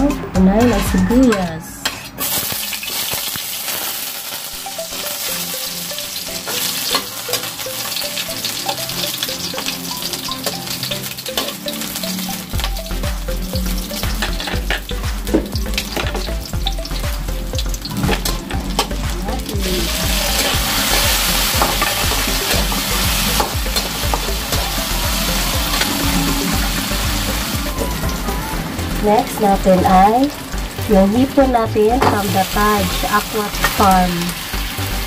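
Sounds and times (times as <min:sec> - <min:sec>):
onions sizzling in oil: 0:02.1 - 0:30.8, 0:32.0 - 0:35.0.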